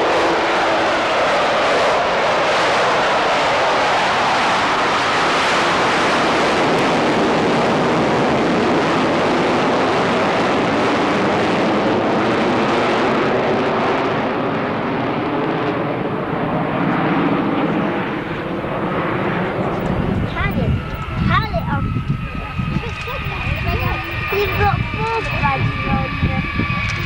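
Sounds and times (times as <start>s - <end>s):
jet bomber passing overhead: 0.0s - 27.0s.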